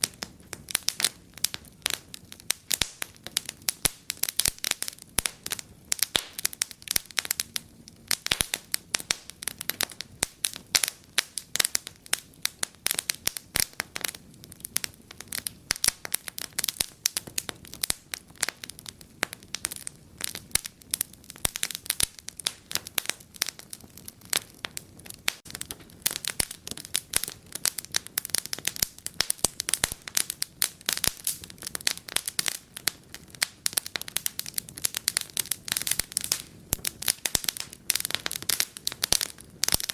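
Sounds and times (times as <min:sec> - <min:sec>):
faint low hiss: 0:00.0 - 0:39.9
wood fire crackling and popping: 0:00.0 - 0:39.9.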